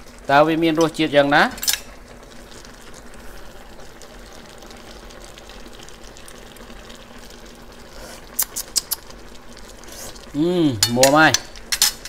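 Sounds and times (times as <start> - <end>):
soup simmering: 0.0 - 12.0.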